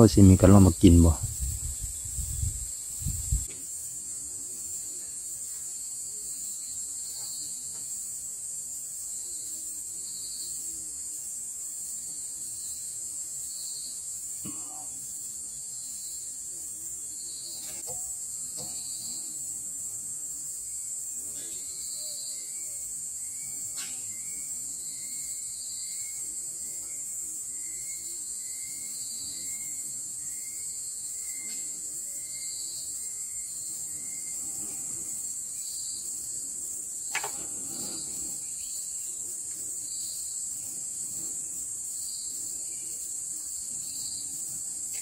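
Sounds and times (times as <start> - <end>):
night insects buzzing: 0.0 - 45.0.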